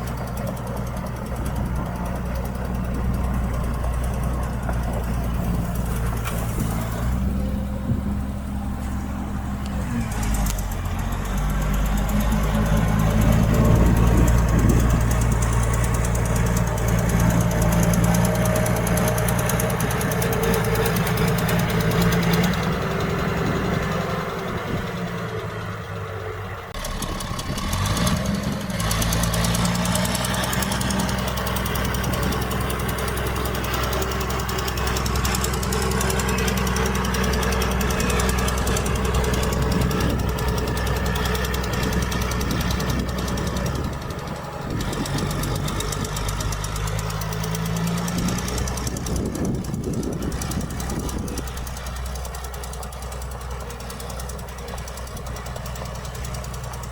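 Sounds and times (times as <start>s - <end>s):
heavy machinery diesel engine: 0.0s - 56.9s.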